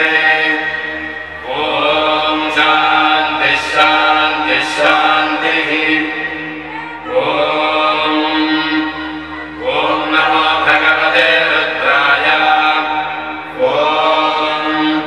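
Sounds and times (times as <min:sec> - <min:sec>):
steady drone: 0:00.0 - 0:15.0
voices chanting a hymn: 0:00.0 - 0:15.0.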